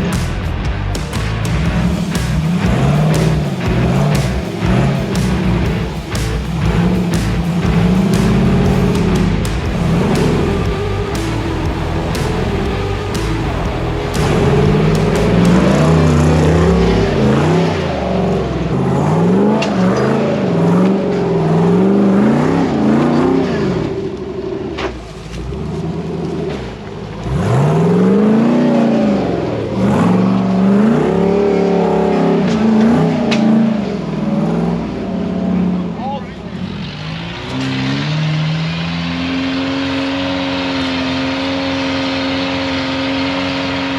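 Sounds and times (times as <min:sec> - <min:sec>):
off-road vehicle engine revving: 0:00.0 - 0:43.9.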